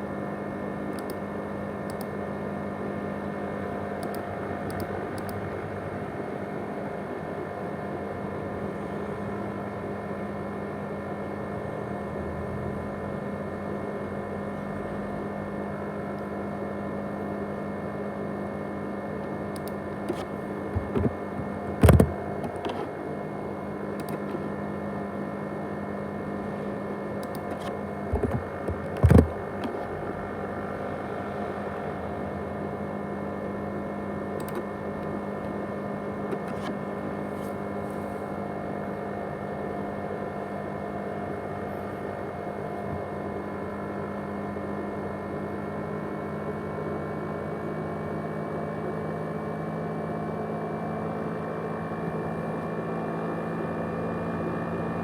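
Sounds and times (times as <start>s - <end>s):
hard disk whirring hum: 0.0s - 55.0s.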